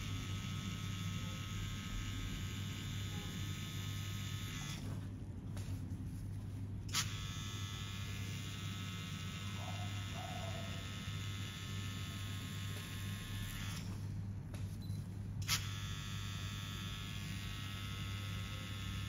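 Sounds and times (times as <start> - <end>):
tattoo machine buzzing: 0.0 - 4.9, 6.9 - 14.0, 15.4 - 19.0.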